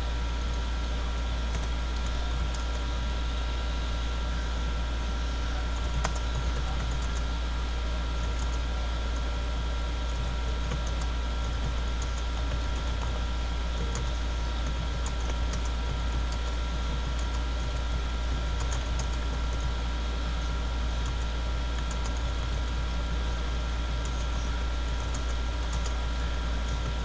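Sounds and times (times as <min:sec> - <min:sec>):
low hum and hiss: 0:00.0 - 0:27.0.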